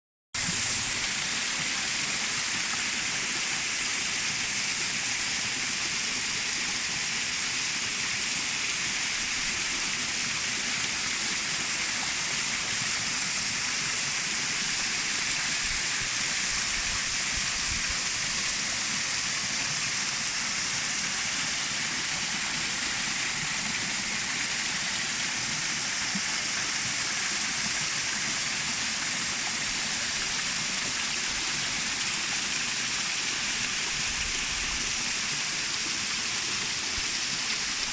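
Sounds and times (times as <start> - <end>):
waterfall pouring into pool: 0.4 - 37.9.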